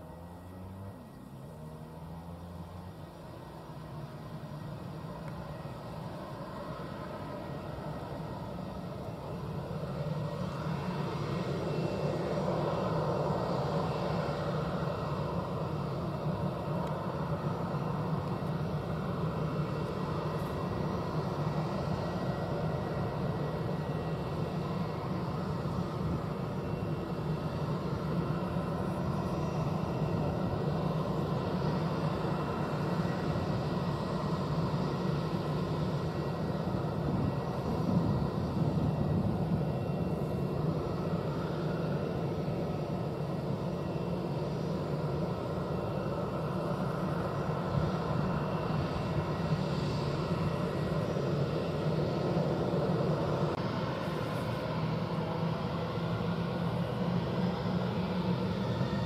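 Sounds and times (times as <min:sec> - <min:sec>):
jet engines hum and hiss: 0:00.0 - 0:59.0.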